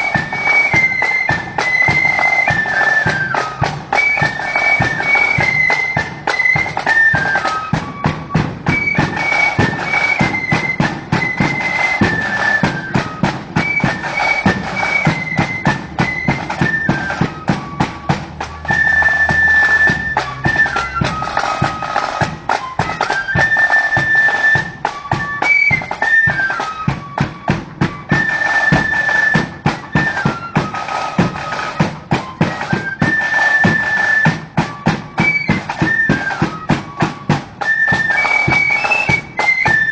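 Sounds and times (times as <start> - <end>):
high flute melody: 0.0 - 39.9
snare drumming: 0.0 - 39.9.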